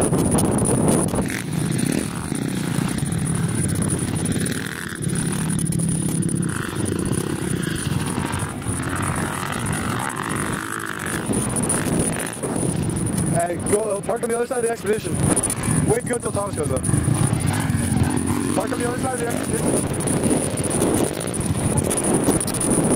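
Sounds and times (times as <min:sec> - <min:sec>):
small off-road engine running: 0:00.0 - 0:22.9.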